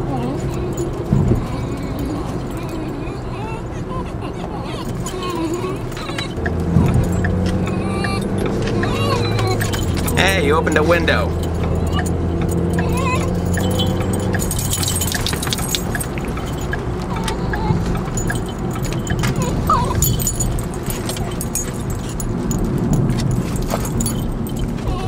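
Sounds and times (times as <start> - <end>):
dogs whining: 0.0 - 25.0
road and wind noise: 0.0 - 25.0
light metallic jingling: 0.1 - 3.8, 4.6 - 25.0.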